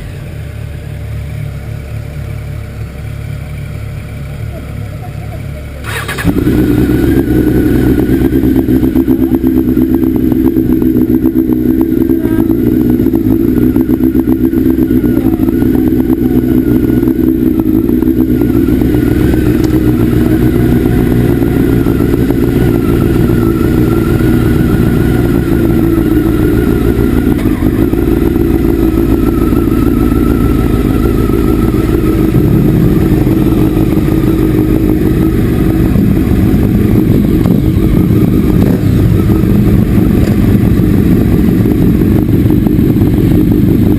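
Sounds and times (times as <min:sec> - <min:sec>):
motorcycle engine droning: 0:00.0 - 0:43.9.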